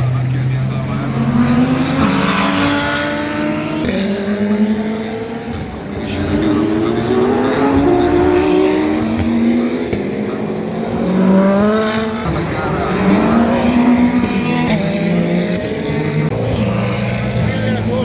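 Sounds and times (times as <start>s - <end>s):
race car engines accelerating past: 0.0s - 18.0s.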